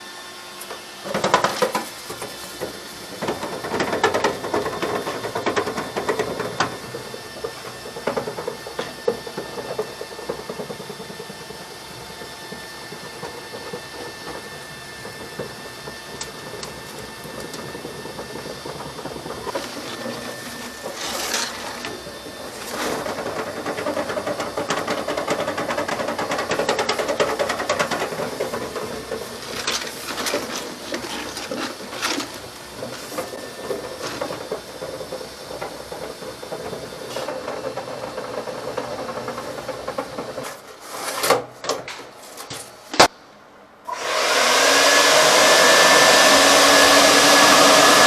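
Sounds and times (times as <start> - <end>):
vent cleaning machine whirring: 0.0 - 40.8, 43.9 - 48.0
knocks and scrapes in duct: 1.0 - 43.1.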